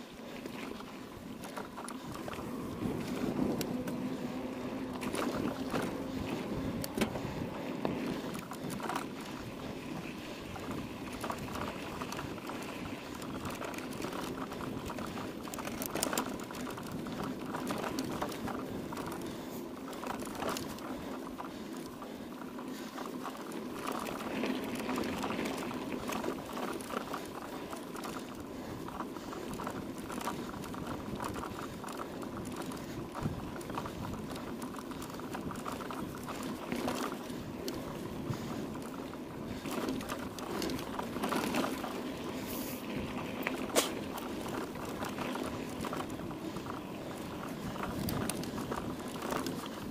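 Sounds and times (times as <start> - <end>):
bike rattling clicks: 0.0 - 49.9
bike tyres crackling on gravel: 0.0 - 49.9.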